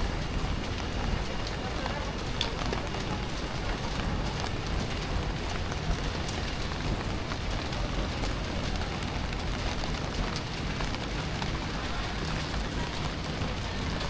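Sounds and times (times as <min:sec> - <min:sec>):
low city rumble: 0:00.0 - 0:14.0
steady rain falling: 0:00.0 - 0:14.0.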